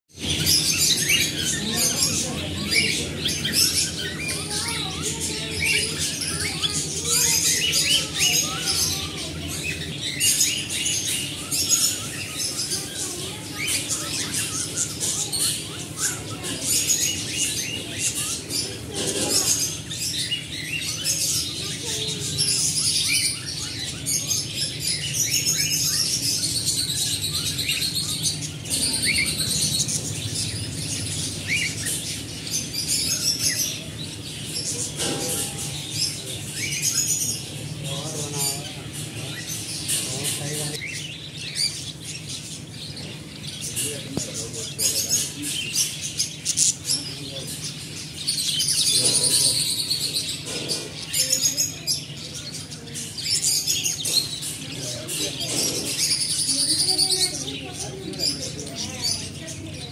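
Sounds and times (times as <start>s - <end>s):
caged birds chirping and calling: 0.1s - 59.9s.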